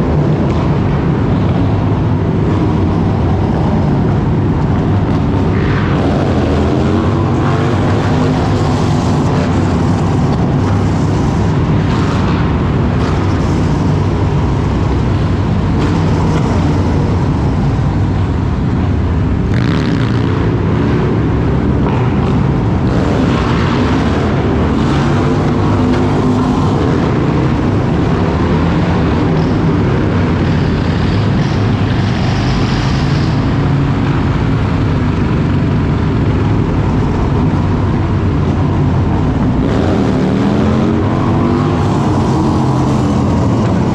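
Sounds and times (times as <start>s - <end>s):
motorcycle engine running: 0.0s - 43.9s
road and wind noise: 0.0s - 43.9s.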